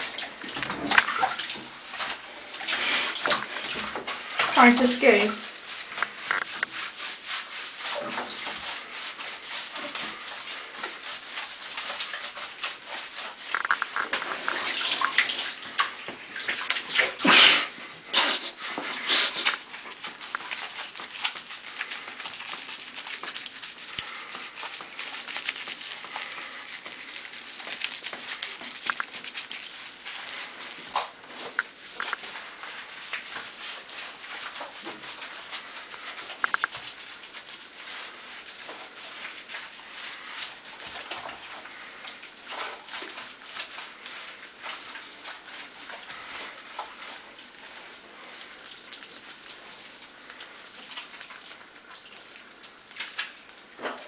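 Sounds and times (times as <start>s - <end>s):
water sloshing: 0.0s - 18.1s, 18.8s - 54.0s
hands scrubbing wet fur: 0.0s - 54.0s.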